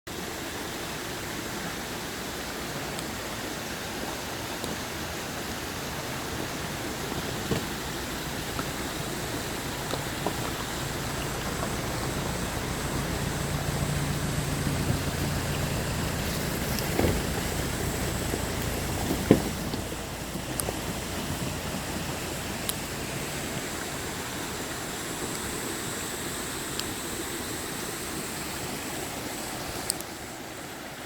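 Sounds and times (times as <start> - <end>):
stream rushing: 0.1 - 31.0.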